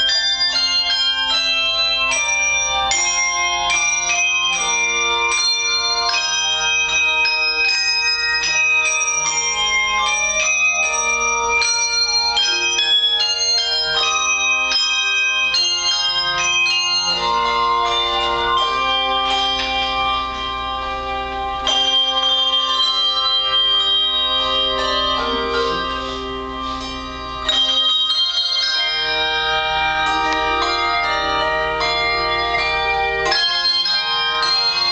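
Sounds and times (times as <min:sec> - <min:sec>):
hand bell choir playing: 0:00.0 - 0:34.9.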